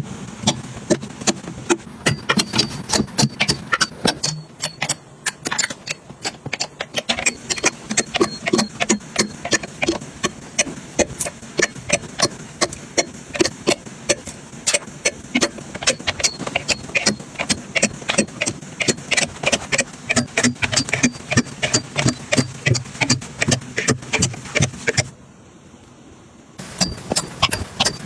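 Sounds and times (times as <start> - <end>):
small items clicking and knocking: 0.4 - 25.1.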